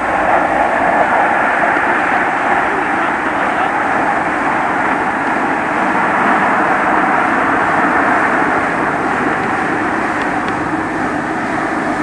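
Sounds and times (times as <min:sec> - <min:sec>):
diesel train rushing drone: 0:00.0 - 0:12.0.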